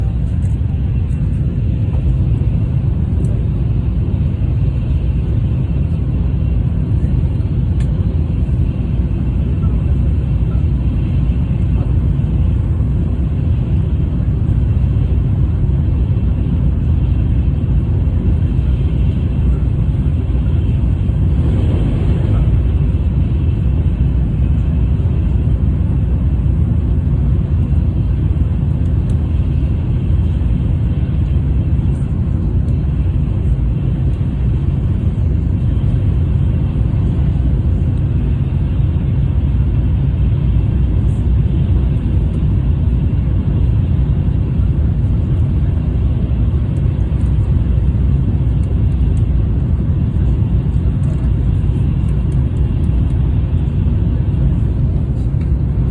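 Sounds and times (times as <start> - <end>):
train rumbling at speed: 0.0 - 55.9.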